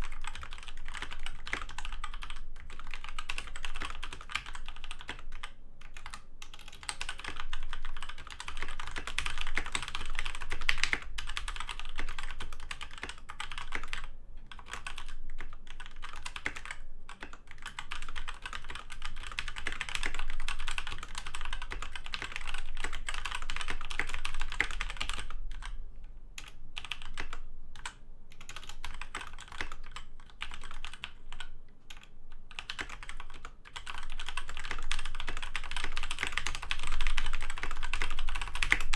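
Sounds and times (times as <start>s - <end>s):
fast typing on mechanical keyboard: 0.0s - 25.8s, 26.4s - 38.9s.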